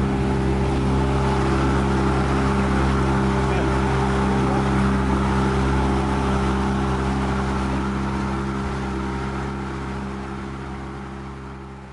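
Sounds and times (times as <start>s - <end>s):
motorboat engine running: 0.0s - 11.9s
water churning along hull: 0.0s - 11.9s.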